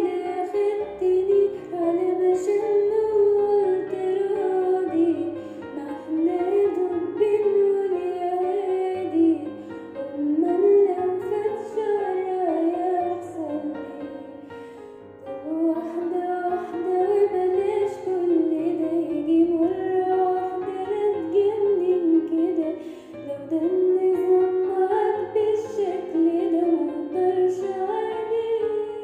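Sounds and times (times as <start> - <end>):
woman singing: 0.0 - 14.2, 15.4 - 29.0
soft piano accompaniment: 0.0 - 29.0.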